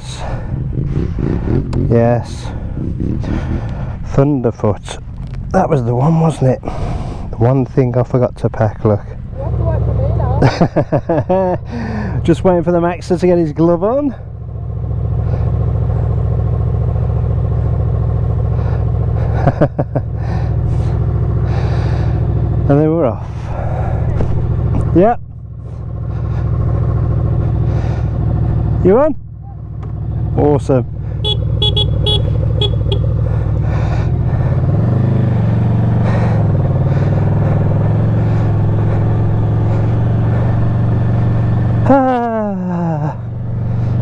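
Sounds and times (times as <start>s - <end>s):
motorcycle engine idling: 0.0s - 44.0s.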